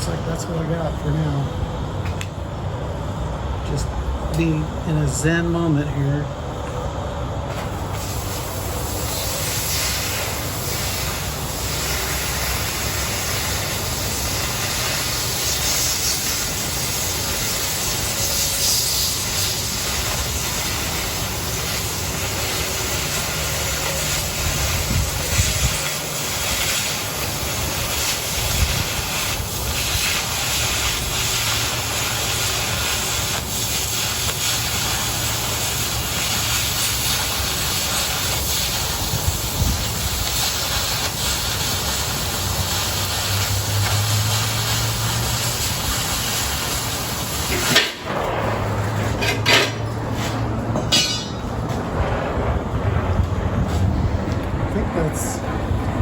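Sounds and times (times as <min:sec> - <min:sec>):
cutting torch hissing: 0:07.2 - 0:55.8
torch popping: 0:07.5 - 0:54.6.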